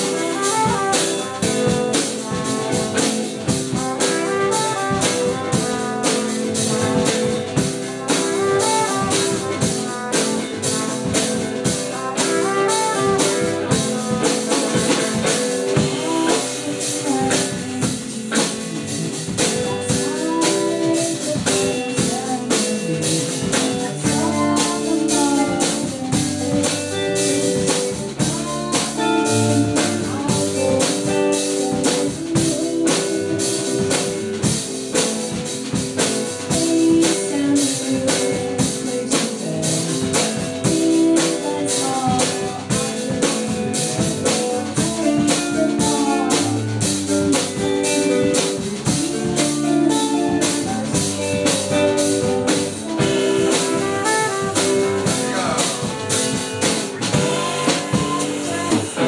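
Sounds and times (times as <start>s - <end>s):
band playing: 0.0s - 59.0s
drum kit beat: 0.0s - 59.0s.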